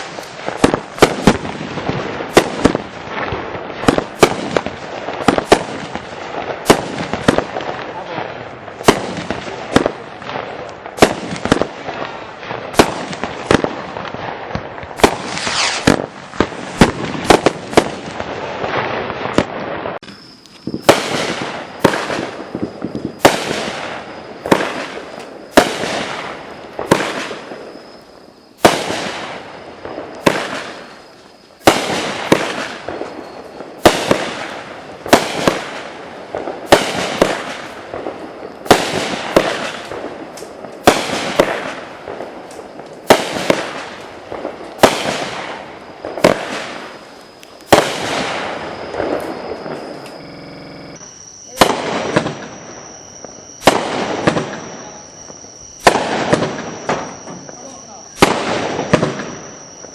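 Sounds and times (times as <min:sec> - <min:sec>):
fireworks crackling: 0:00.0 - 0:59.9
fireworks sharp reports: 0:00.0 - 0:59.9.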